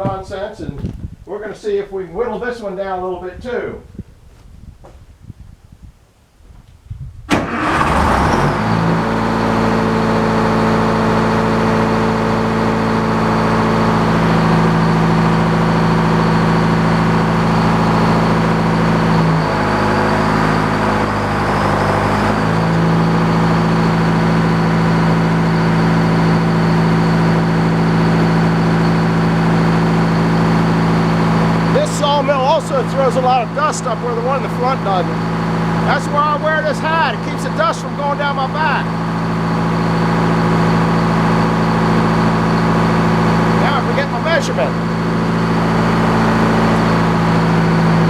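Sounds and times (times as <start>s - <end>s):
sawmill engine cranking and running: 7.3s - 48.0s.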